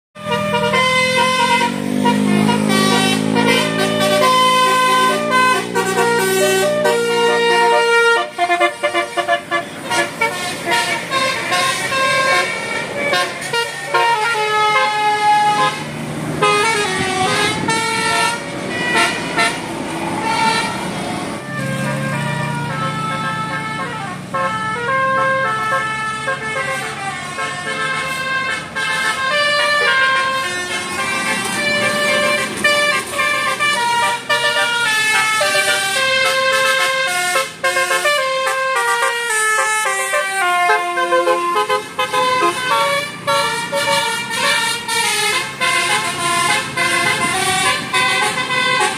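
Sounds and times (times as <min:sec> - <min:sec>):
bus engine humming: 0:00.2 - 0:48.9
musical bus air horns: 0:00.2 - 0:48.9.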